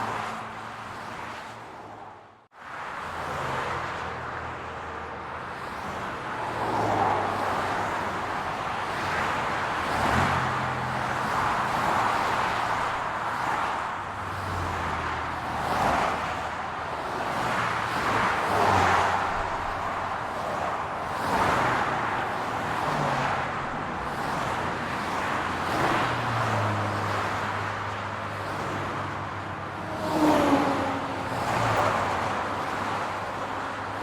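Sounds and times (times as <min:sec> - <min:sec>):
cars driving past: 0:00.0 - 0:34.0.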